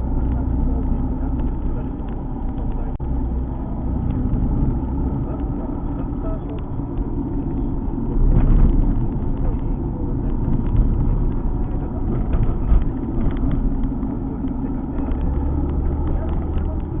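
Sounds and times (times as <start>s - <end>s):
car engine pulling: 0.0s - 17.0s
road noise: 0.0s - 17.0s.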